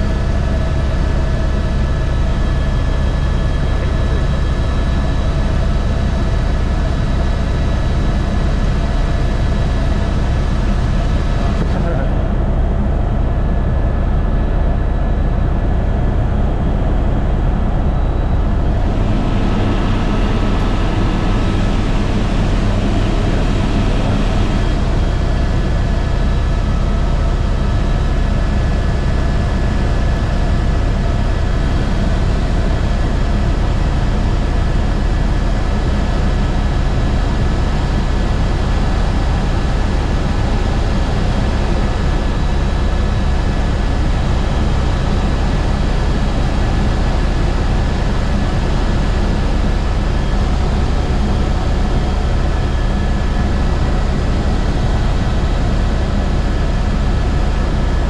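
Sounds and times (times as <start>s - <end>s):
helicopter rotor drone: 0.0s - 58.0s
thin steady whine: 0.0s - 58.0s.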